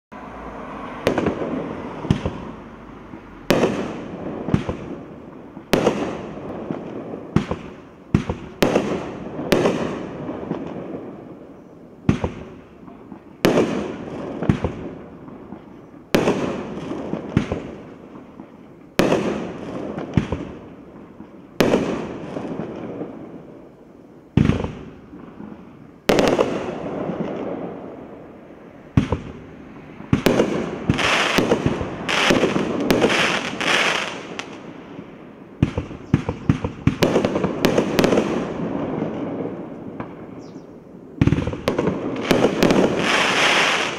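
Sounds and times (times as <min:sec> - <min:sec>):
crackling firework stars: 0:00.1 - 0:43.9
fireworks bangs: 0:00.2 - 0:43.9.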